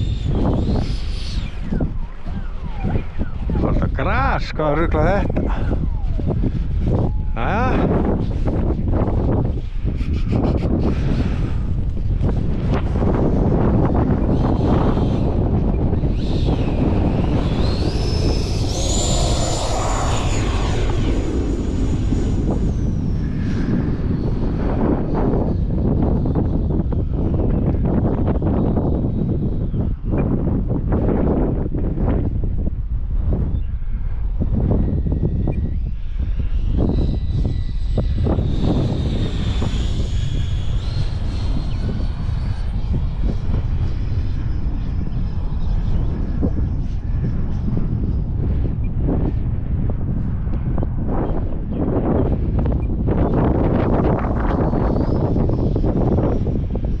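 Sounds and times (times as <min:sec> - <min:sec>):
electric ducted fan whine: 0:00.0 - 0:57.0
wind buffeting microphone: 0:00.0 - 0:57.0.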